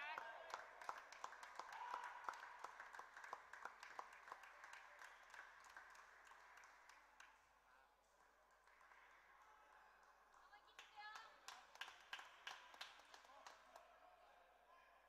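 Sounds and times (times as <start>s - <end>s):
faint hand clapping: 0.0s - 13.8s.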